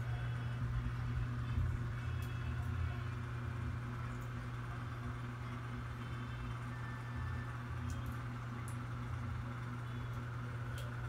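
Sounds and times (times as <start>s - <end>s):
motor or fan hum: 0.0s - 11.0s.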